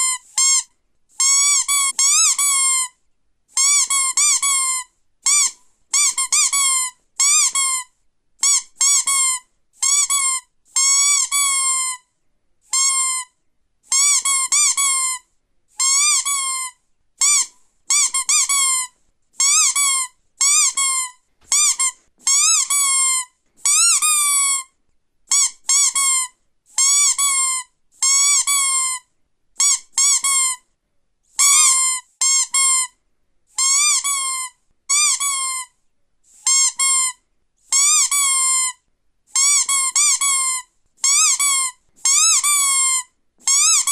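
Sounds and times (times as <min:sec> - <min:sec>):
squeaky toy squeaks: 0:00.0 - 0:12.1, 0:12.7 - 0:30.7, 0:31.3 - 0:43.9.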